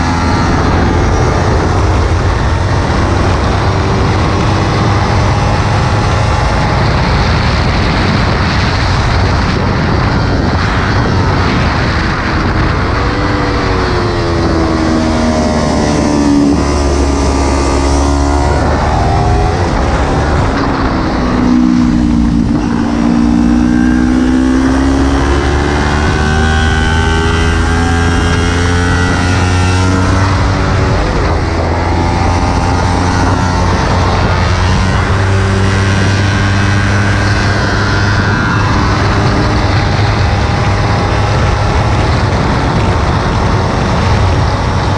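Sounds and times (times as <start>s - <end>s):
motorcycle engine revving: 0.0s - 44.9s
wind roaring on microphone: 0.0s - 44.9s.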